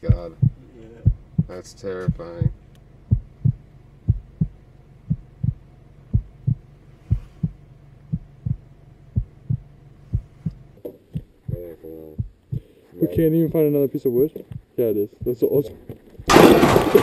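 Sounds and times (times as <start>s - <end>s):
heartbeat thumps: 0.0s - 16.4s
steady low hum: 0.0s - 17.0s.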